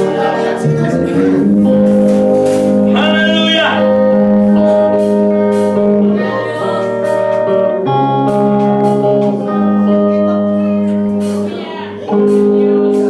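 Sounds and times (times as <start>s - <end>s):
electric guitar chords: 0.0s - 13.0s
drums with cymbal beat: 1.4s - 3.1s, 3.8s - 13.0s.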